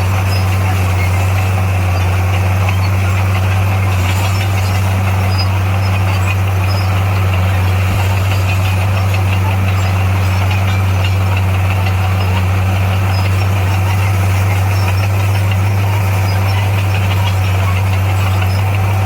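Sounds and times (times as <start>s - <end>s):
heavy machinery diesel engine humming: 0.0s - 19.0s.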